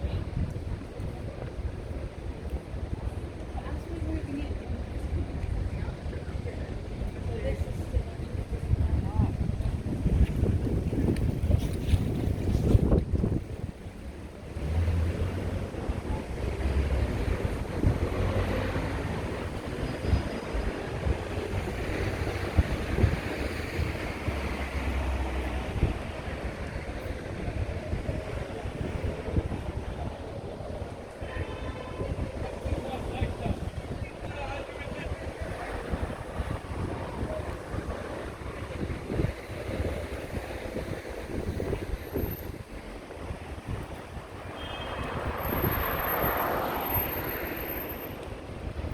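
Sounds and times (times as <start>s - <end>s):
wind buffeting microphone: 0.0s - 47.2s
outdoor street noise: 0.0s - 48.9s.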